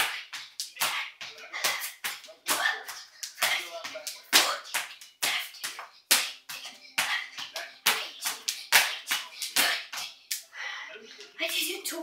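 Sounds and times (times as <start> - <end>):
skipping rope slapping floor: 0.0 - 10.4.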